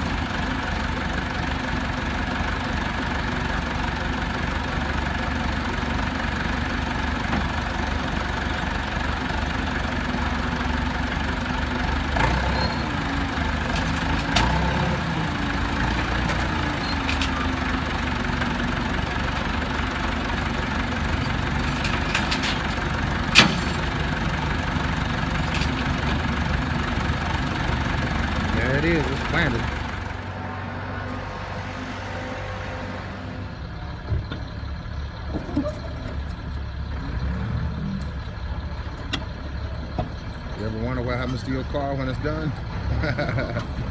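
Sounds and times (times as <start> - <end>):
truck engine idling: 0.0 - 31.4, 32.4 - 43.9.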